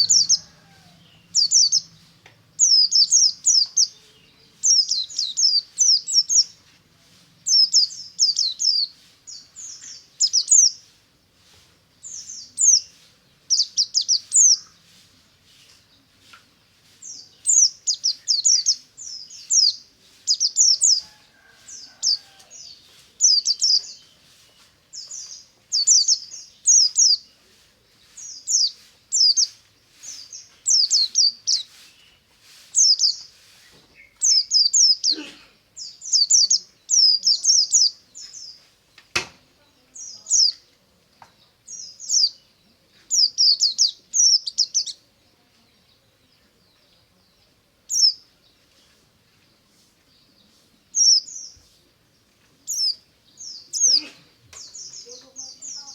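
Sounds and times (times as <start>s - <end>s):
bird chirping: 0.0s - 6.8s, 7.4s - 55.9s.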